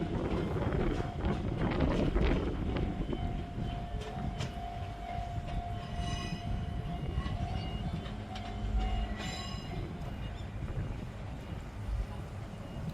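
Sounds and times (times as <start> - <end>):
electric train rumble and whine: 0.0 - 12.9.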